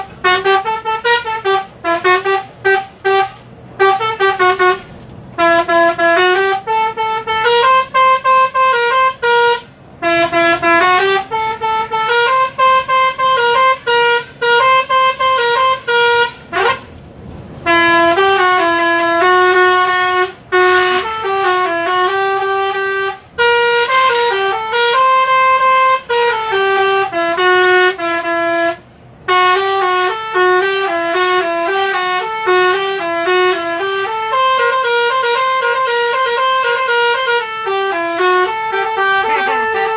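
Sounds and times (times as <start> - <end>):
musical vehicle horn tune: 0.0 - 39.9.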